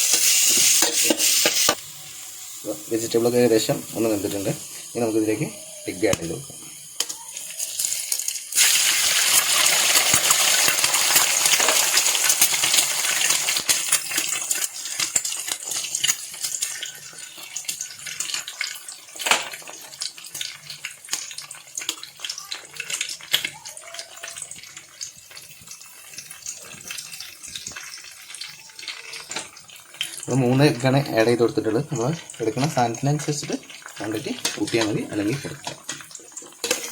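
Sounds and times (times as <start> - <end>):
eggs sizzling in a frying pan: 0.0 - 36.9.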